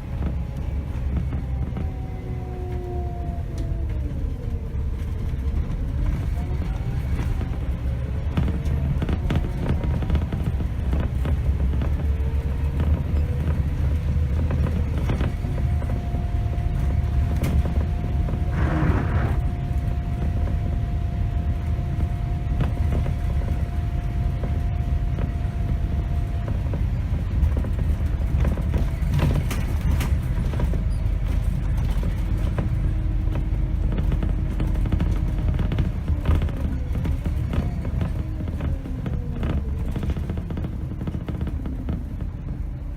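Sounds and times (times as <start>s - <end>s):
bus body rattling and creaking: 0.0s - 42.9s
bus engine and road rumble: 0.0s - 42.9s.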